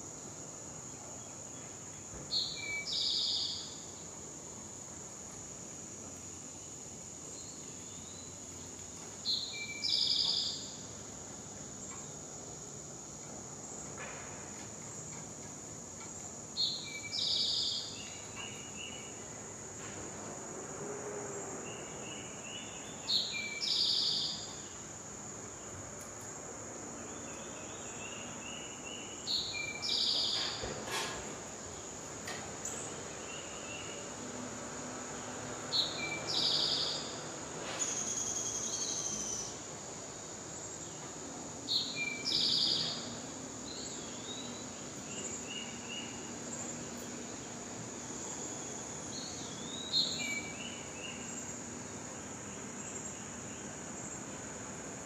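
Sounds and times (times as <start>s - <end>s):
songbird singing: 0.0s - 19.8s, 21.6s - 55.0s.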